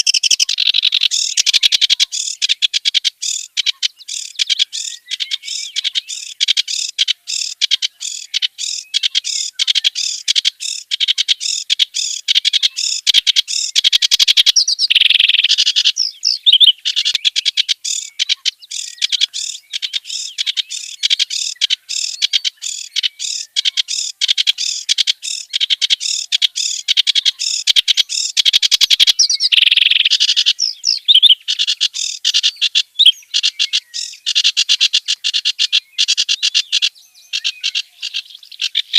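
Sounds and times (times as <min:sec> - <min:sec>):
reed warbler singing: 0:00.0 - 0:38.9.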